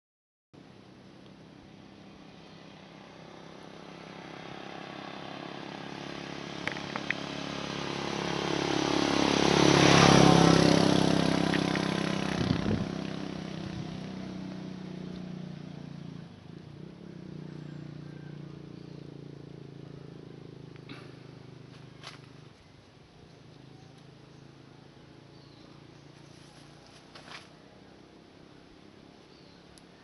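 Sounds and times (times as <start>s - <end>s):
vehicle passing by: 1.4s - 30.0s.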